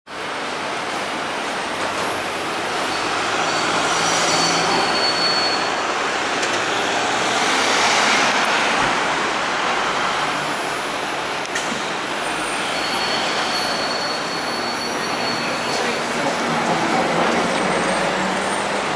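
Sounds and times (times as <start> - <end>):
vehicles driving past: 0.2 - 18.9.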